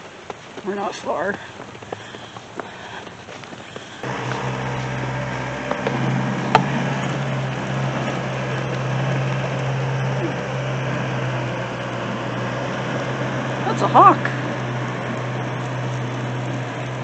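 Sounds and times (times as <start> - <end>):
road noise: 0.0 - 17.0
car engine hum: 3.2 - 17.0.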